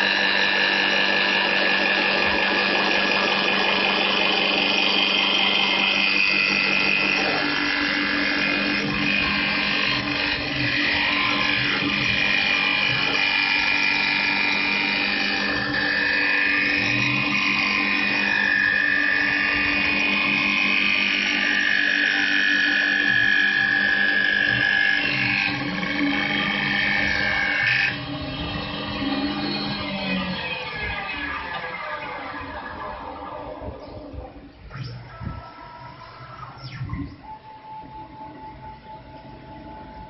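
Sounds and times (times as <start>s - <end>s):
cutter shaving spinning wood: 0.0s - 34.4s
wood lathe motor whining: 0.0s - 36.8s.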